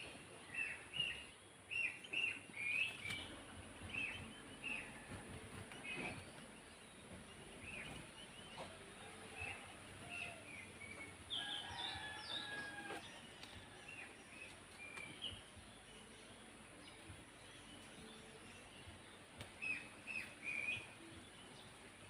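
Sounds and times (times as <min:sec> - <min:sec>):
sparrows chirping: 0:00.0 - 0:22.0.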